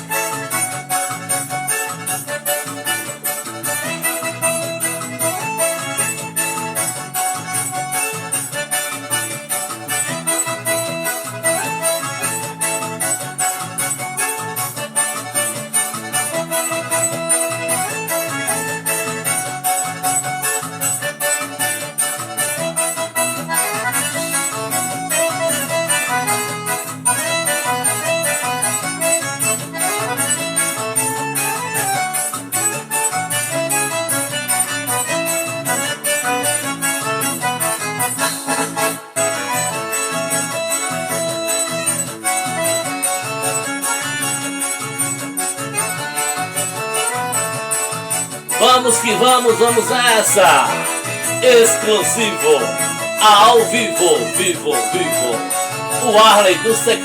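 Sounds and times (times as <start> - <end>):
accordion-voiced keyboard melody: 0.0 - 57.0
bass: 0.0 - 57.0.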